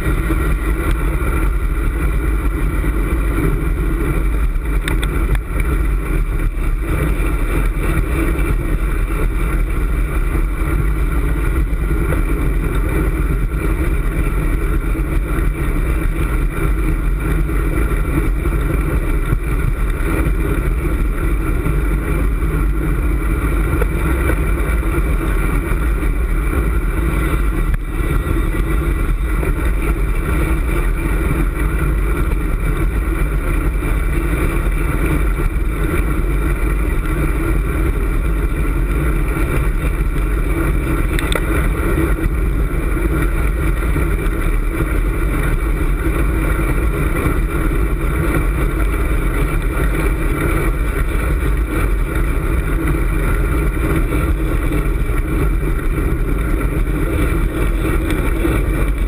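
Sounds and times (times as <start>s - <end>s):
bike tyres on asphalt: 0.0s - 59.0s
wind rushing over microphone: 0.0s - 59.0s.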